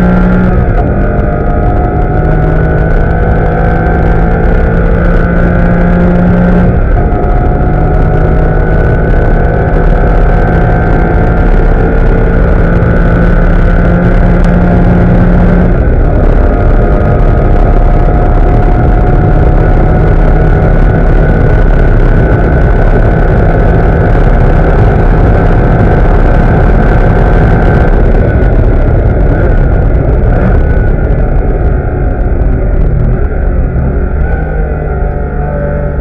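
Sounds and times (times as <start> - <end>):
car engine at full throttle: 0.0 - 36.0
wind and road noise: 0.0 - 36.0.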